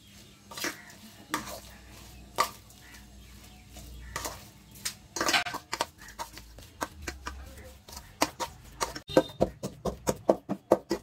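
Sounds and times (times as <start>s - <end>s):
fruit pulp mashed by hand: 0.6s - 11.0s.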